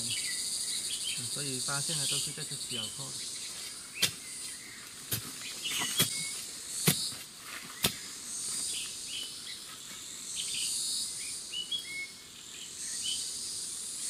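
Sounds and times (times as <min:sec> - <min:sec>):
birds chirping: 0:00.0 - 0:14.0
insects chirring: 0:00.0 - 0:14.0.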